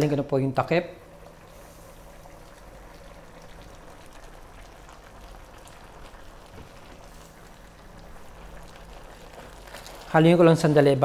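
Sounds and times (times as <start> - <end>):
broth bubbling and crackling: 0.0 - 11.0.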